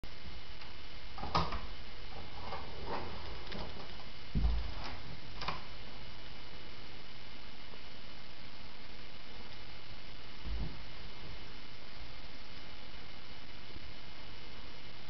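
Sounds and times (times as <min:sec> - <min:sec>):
recording hiss: 0:00.0 - 0:15.0.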